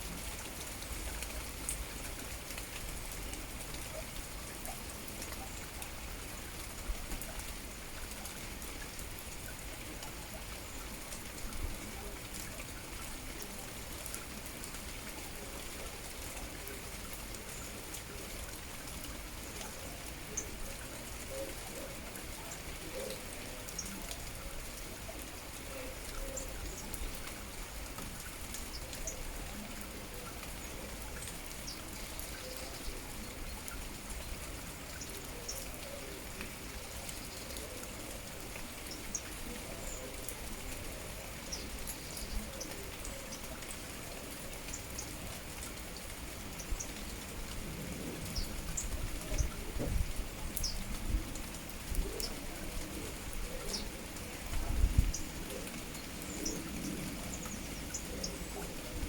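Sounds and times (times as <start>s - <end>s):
steady rain: 0.0s - 59.0s
drops and drips ticking: 0.1s - 59.0s.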